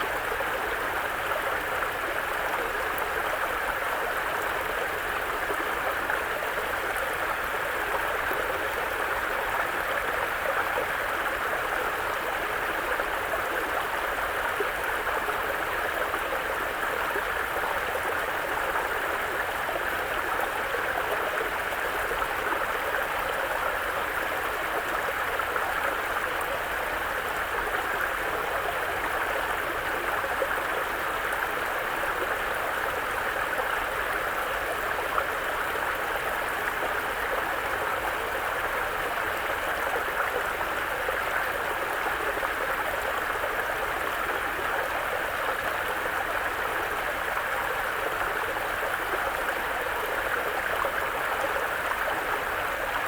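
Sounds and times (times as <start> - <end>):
brook flowing over rocks: 0.0 - 53.0.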